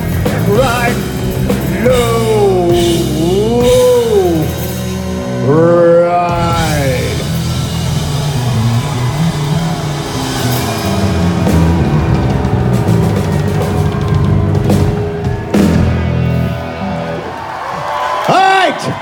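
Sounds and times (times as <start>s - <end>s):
punk rock band playing: 0.0s - 18.2s.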